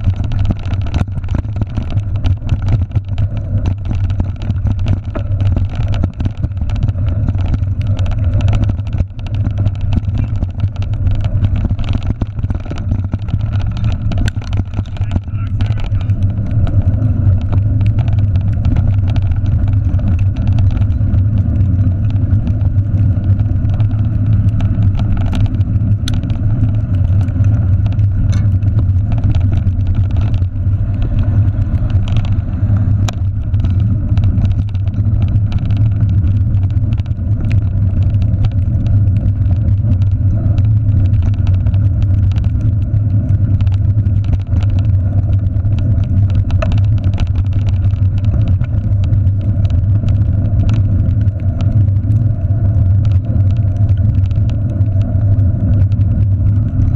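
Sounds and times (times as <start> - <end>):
bicycle rattles and knocks: 0.0 - 56.9
bicycle rolling on dirt trail: 0.0 - 56.9.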